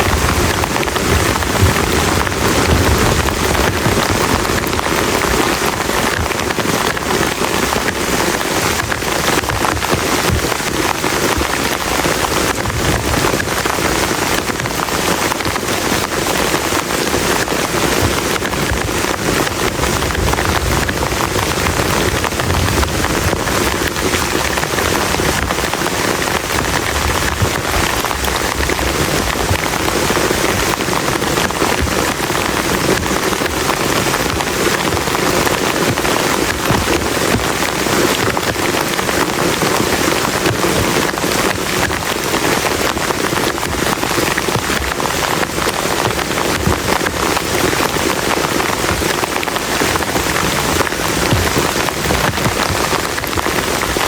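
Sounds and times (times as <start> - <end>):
heavy rain on a plastic tarp: 0.0 - 54.0.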